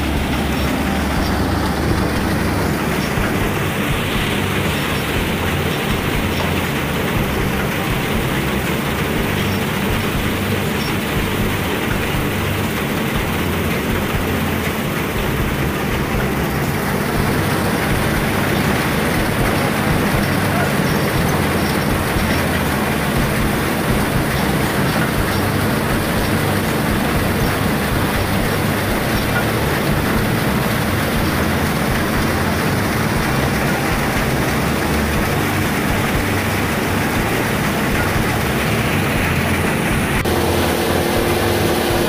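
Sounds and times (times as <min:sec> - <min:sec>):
grain thresher running: 0:00.0 - 0:42.0
tractor engine low hum: 0:00.0 - 0:42.0.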